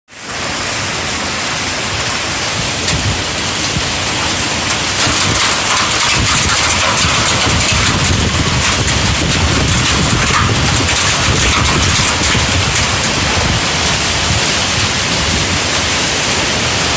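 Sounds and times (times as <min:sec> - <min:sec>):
hail in strong wind: 0:00.1 - 0:16.9
hailstones clicking: 0:02.8 - 0:16.9.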